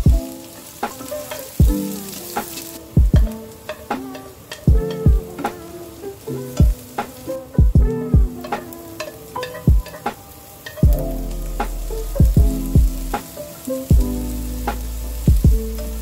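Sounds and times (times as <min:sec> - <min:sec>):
background music with drum beat: 0:00.0 - 0:16.0
vegetables sizzling in a pan: 0:00.0 - 0:16.0
spatula stirring: 0:00.1 - 0:14.0.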